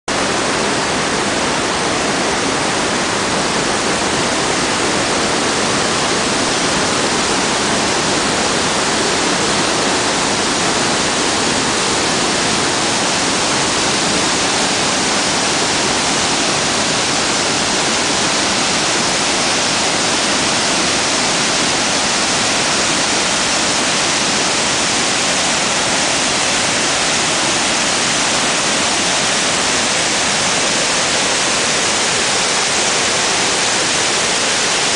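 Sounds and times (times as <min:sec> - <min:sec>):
white water rushing: 0:00.1 - 0:34.9.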